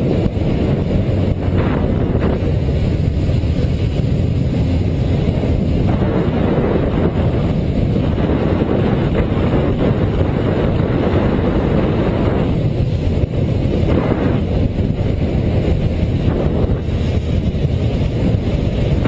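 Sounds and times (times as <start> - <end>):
motorcycle running: 0.0 - 19.0
wind rushing over microphone: 0.0 - 19.0.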